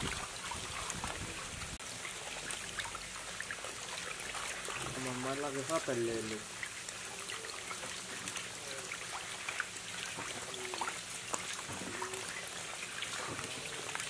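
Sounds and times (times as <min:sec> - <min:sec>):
fish thrashing in water: 0:00.0 - 0:14.0
water dripping: 0:00.0 - 0:14.0.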